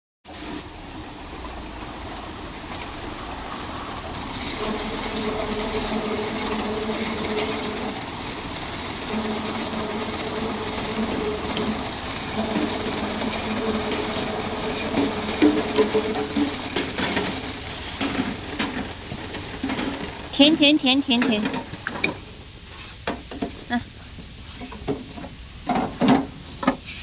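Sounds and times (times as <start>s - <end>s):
machine mechanical hum: 0.3s - 27.0s.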